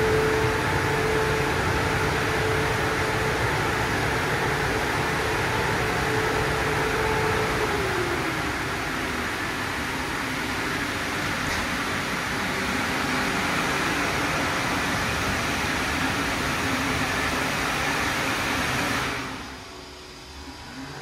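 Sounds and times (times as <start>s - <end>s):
car wash dryer blowers: 0.0s - 21.0s.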